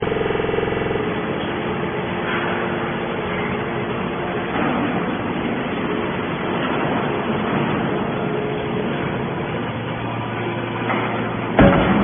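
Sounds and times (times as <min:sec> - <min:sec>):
baling press machinery running: 0:00.0 - 0:12.0
buzzing hum: 0:00.0 - 0:12.0.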